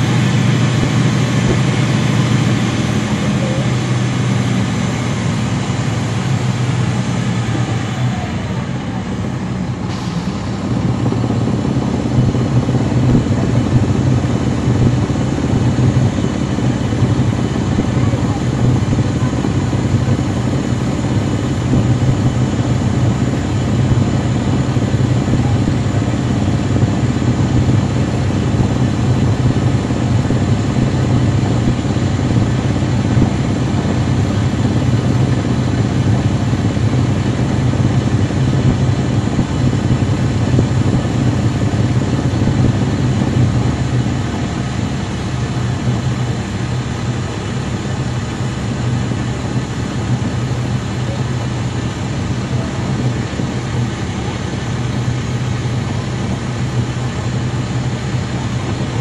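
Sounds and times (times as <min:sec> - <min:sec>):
bus diesel engine humming: 0:00.0 - 0:59.0.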